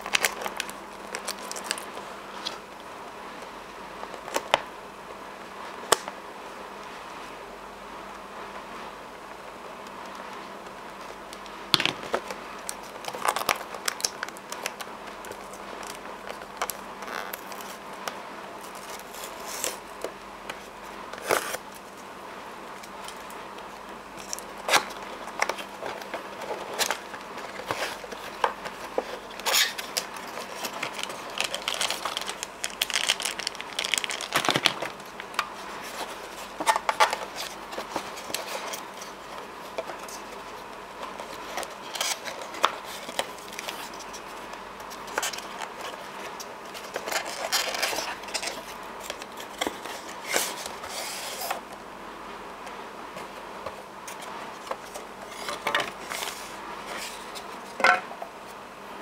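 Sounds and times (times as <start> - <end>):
packaging rustling and crinkling: 0.0 - 2.7, 11.0 - 22.1, 22.7 - 51.8, 53.1 - 58.0.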